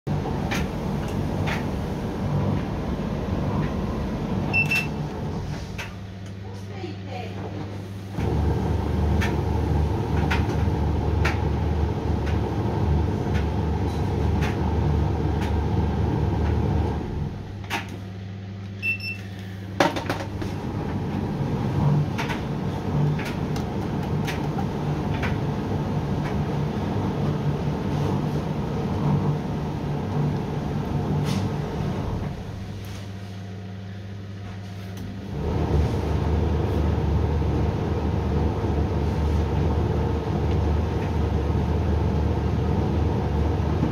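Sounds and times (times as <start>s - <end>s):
dryer drum and motor drone: 0.1s - 6.4s, 7.4s - 18.7s, 19.7s - 33.3s, 34.3s - 43.9s.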